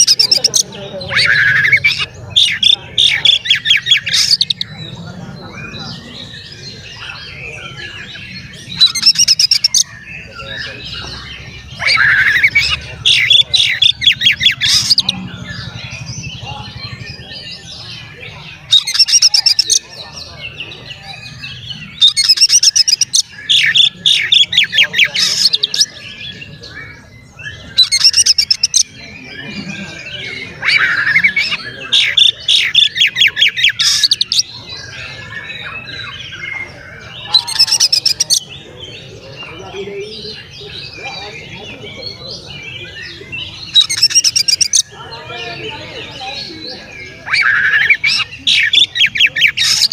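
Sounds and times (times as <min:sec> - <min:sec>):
bird singing with trills: 0:00.0 - 0:49.9.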